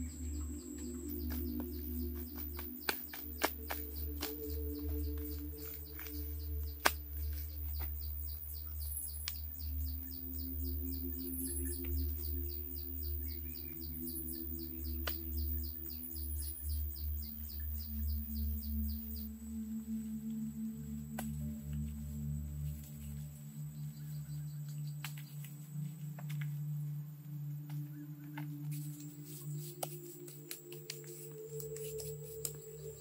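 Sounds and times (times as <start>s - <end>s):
higher chirps: 0.0s - 22.4s, 27.9s - 33.0s
insect chirping in ticking rhythm: 0.0s - 33.0s
low steady hum: 0.0s - 33.0s.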